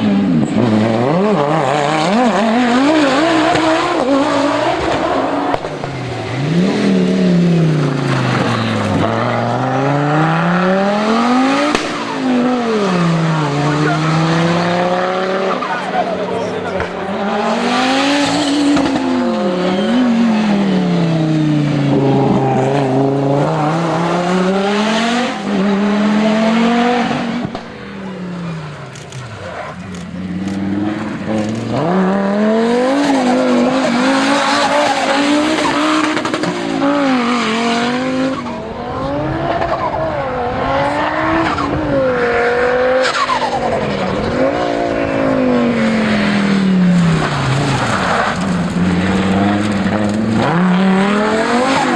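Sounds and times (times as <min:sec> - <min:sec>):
rally car engine revving hard: 0:00.0 - 0:51.9.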